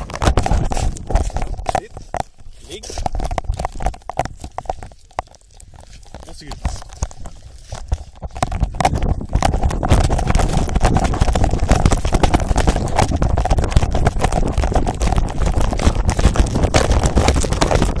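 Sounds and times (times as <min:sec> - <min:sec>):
microphone rubbing and knocking: 0:00.0 - 0:18.0.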